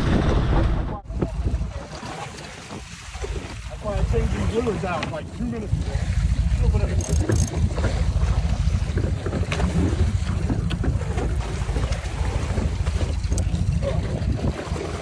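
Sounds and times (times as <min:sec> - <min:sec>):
water churning along hull: 0:00.0 - 0:15.0
wind buffeting microphone: 0:00.0 - 0:15.0.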